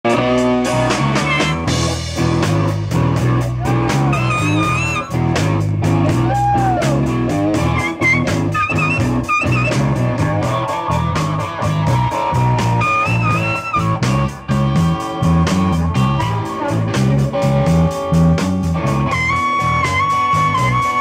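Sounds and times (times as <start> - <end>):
drum kit beat: 0.0 - 21.0
electric guitars: 0.1 - 21.0.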